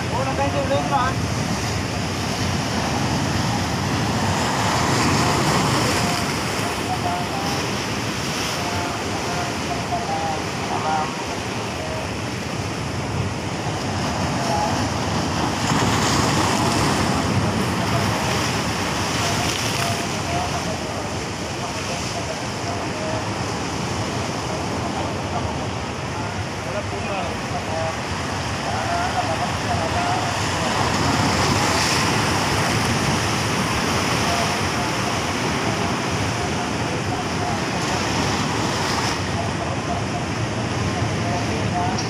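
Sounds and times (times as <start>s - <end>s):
sea surf breaking over rocks: 0.0s - 42.0s.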